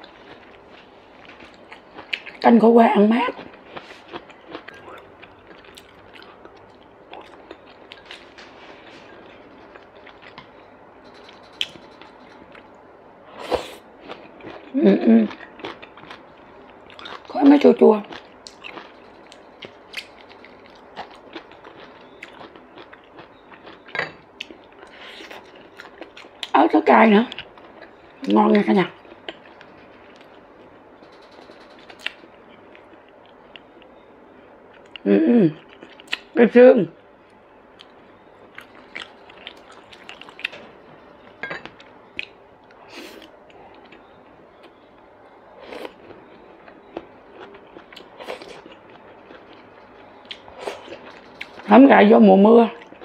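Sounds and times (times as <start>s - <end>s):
person chewing food: 0.0s - 2.4s, 3.4s - 17.4s, 18.0s - 26.6s, 29.0s - 34.0s, 34.6s - 35.0s, 35.6s - 36.3s, 37.7s - 51.7s, 52.8s - 53.0s.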